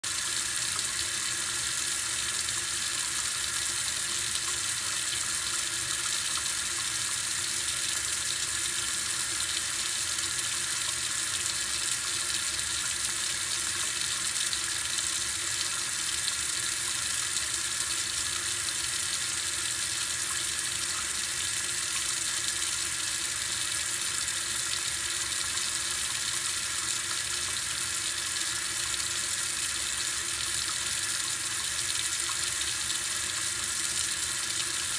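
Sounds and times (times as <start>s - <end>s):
tap water pouring into sink: 0.0s - 34.9s.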